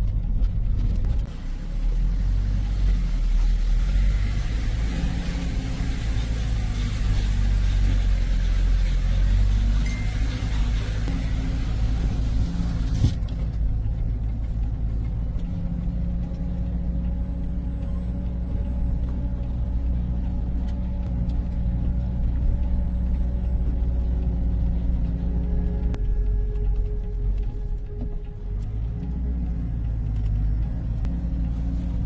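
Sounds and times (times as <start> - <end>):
truck engine rumbling: 0.0 - 32.0.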